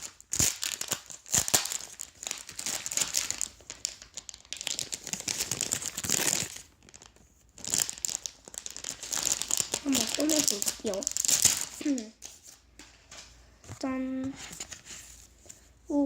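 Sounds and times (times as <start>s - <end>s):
paper packaging crinkling: 0.0s - 13.3s.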